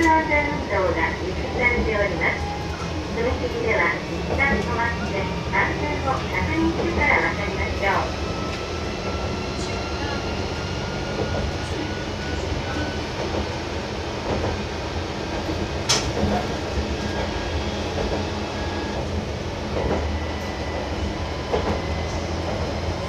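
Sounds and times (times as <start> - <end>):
railcar engine hum: 0.0 - 23.0.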